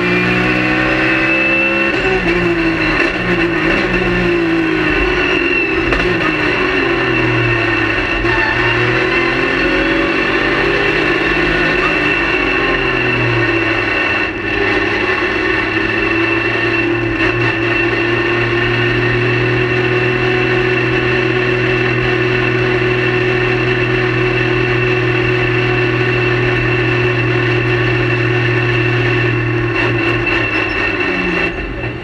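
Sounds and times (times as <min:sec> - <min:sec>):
race car engine running steadily: 0:00.0 - 0:32.0.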